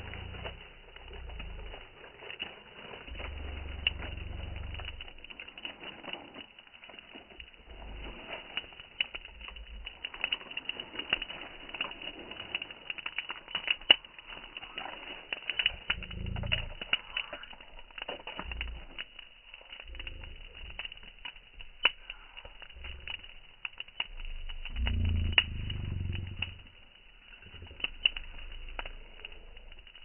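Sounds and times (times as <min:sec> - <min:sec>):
campfire crackling and popping: 0:00.0 - 0:30.0
low rumbles: 0:00.0 - 0:30.0.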